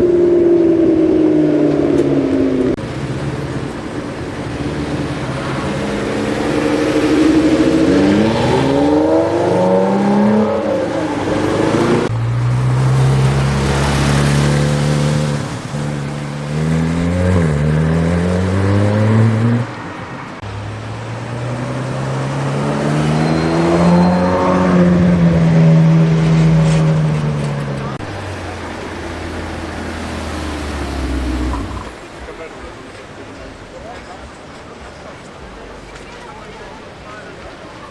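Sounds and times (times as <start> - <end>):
car engines revving: 0.0 - 36.0.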